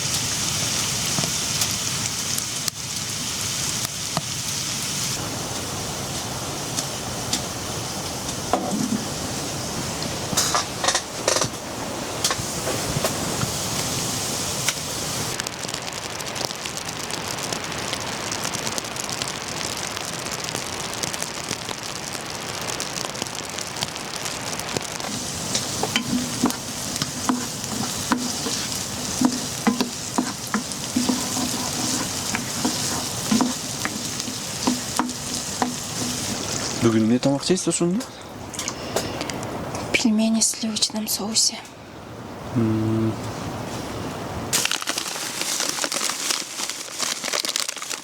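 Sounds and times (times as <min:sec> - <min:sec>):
food sizzling in a frying pan: 0:00.0 - 0:38.0, 0:44.5 - 0:48.0.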